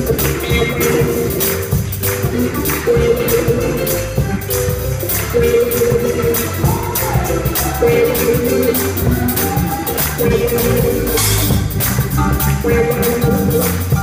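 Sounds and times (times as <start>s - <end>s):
drum kit with cymbal hits: 0.0s - 14.0s
organ and keyboard chords: 0.0s - 14.0s.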